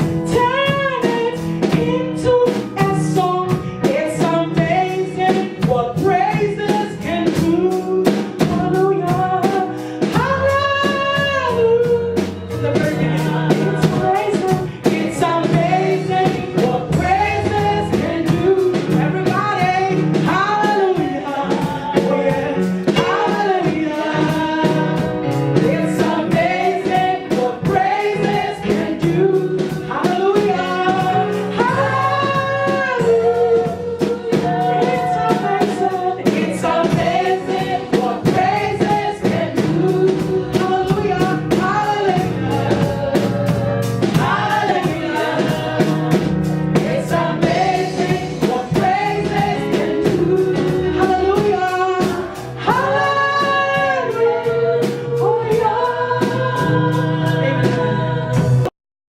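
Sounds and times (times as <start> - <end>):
voices singing gospel music: 0.0 - 58.7.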